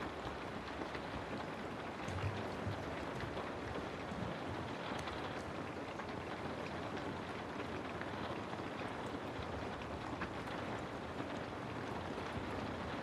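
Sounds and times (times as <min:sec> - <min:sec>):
rainfall hiss: 0:00.0 - 0:13.0.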